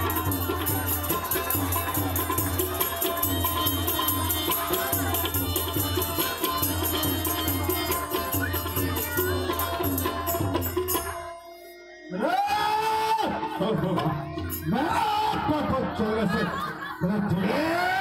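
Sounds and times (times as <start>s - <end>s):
rhythmic drum beat: 0.0s - 11.5s, 13.3s - 16.8s.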